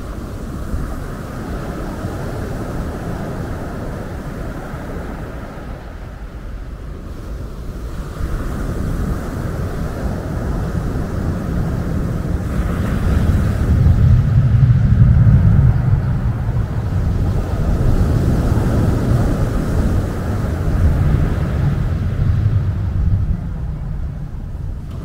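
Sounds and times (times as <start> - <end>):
waves on pebble beach: 0.0 - 14.2, 16.1 - 25.0
jet airliner rumble: 0.0 - 25.0.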